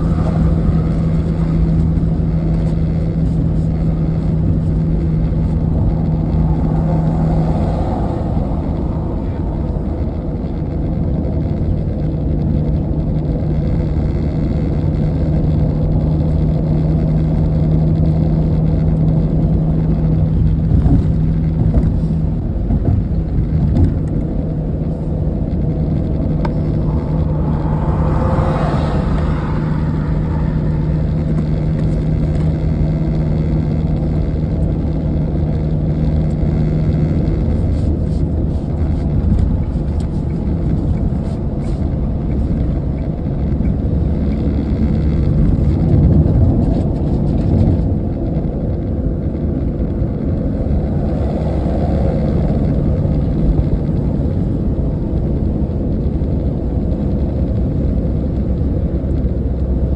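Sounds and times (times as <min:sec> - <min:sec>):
engine and tyre noise in car cabin: 0:00.0 - 0:59.9
low steady hum: 0:00.0 - 0:59.9.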